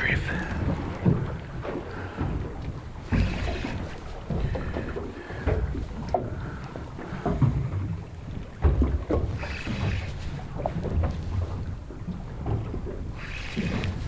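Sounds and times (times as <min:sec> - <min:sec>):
water slapping against hull: 0:00.0 - 0:14.0.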